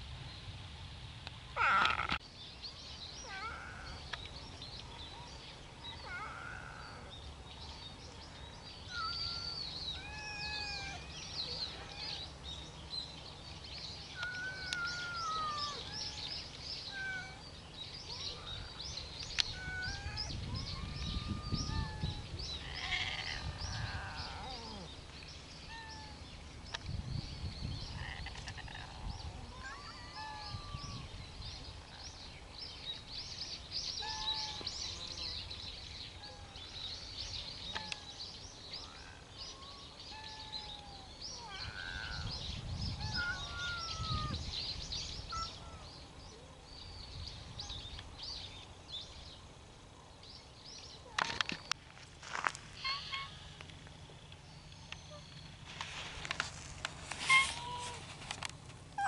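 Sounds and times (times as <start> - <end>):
birds singing and calling: 1.5 - 59.0.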